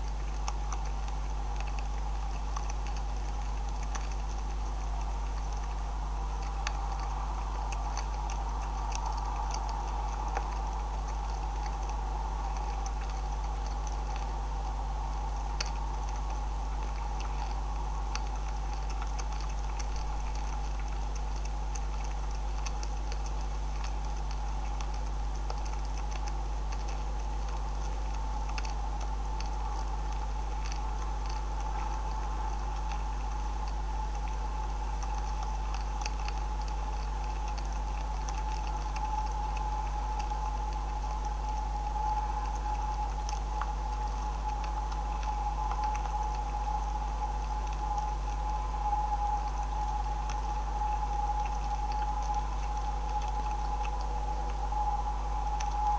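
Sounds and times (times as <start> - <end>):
beavers chewing and crunching: 0.0 - 55.9
microphone hum: 0.0 - 55.9.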